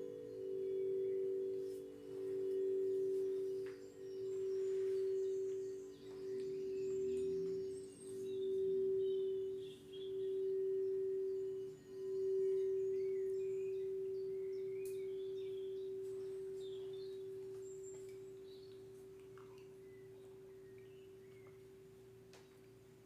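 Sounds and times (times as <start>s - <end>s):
singing bowl ringing: 0.0s - 21.9s
faint bird chirps: 0.0s - 22.8s.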